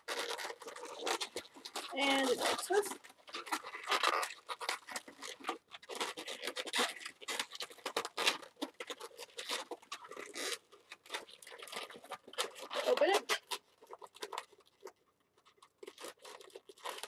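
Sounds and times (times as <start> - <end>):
balloons rubbing and scratching: 0.0 - 15.0, 15.6 - 17.0.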